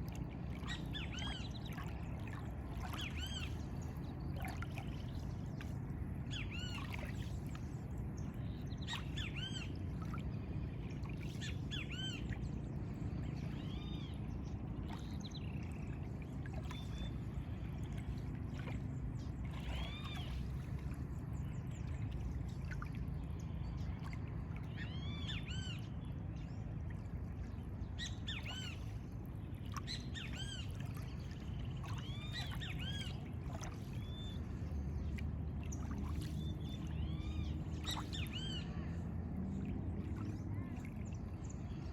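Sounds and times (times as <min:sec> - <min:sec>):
steady low rumble: 0:00.0 - 0:41.9.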